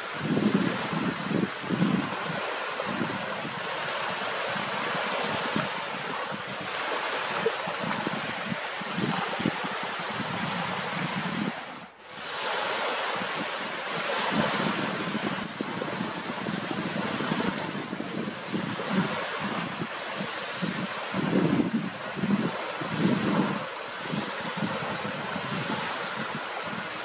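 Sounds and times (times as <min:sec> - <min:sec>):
small waves washing: 0:00.0 - 0:27.0
wind buffeting microphone: 0:00.0 - 0:27.0.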